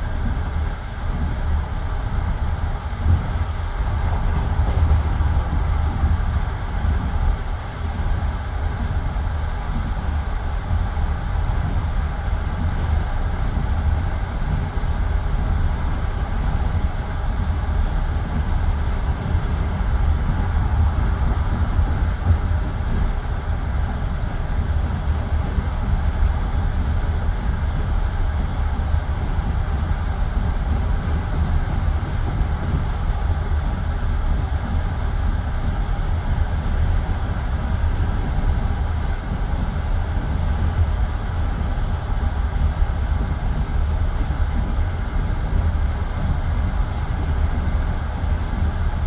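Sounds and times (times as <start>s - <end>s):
train wheels rumbling: 0.0s - 49.0s.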